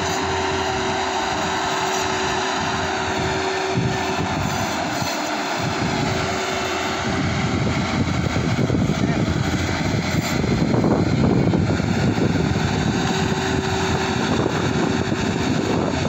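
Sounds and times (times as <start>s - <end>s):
harvester engine running: 0.0s - 16.0s
steady whine: 0.0s - 16.0s.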